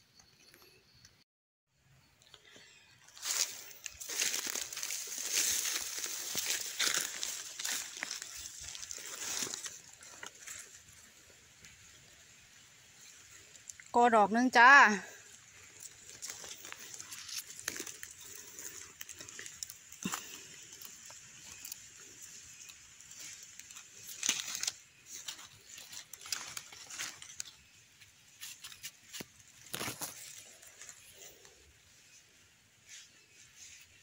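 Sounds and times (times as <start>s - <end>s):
dry leaves rustling and crackling: 3.1s - 13.9s, 14.8s - 31.8s.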